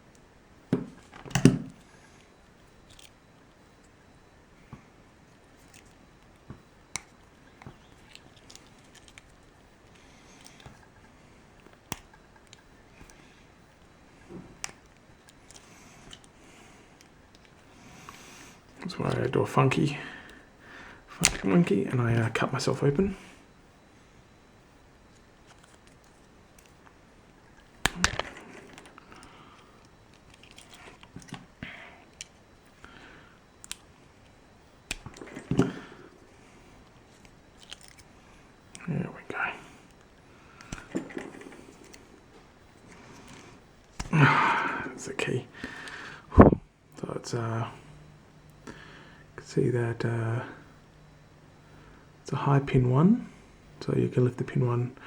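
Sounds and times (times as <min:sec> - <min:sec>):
wrapping snapping: 0:00.0 - 0:23.2, 0:24.3 - 0:46.2
wrapping scraping and clicking: 0:00.9 - 0:22.8, 0:23.4 - 0:46.1.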